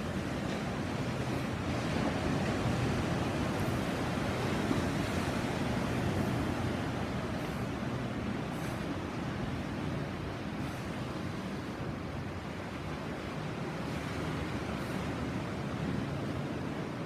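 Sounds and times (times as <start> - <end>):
sea waves on beach: 0.0 - 17.0.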